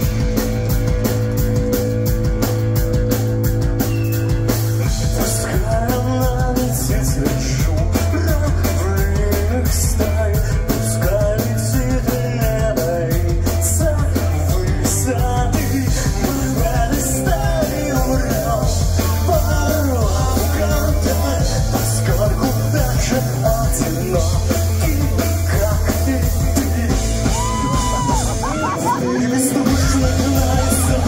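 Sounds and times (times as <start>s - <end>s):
pop-punk band playing live: 0.0s - 31.0s.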